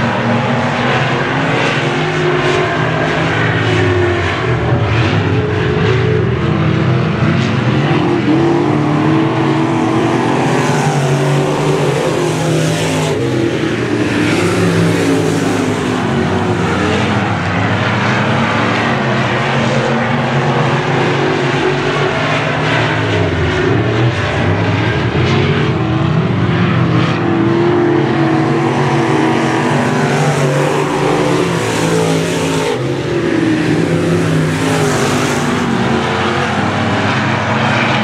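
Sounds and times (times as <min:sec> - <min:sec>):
race car engines: 0:00.0 - 0:38.0.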